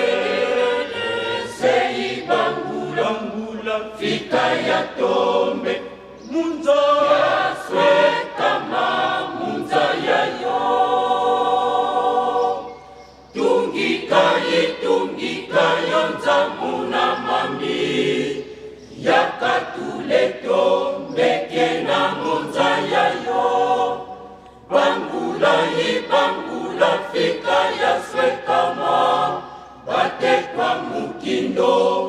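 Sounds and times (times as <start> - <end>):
congregation singing a hymn: 0.0 - 32.0.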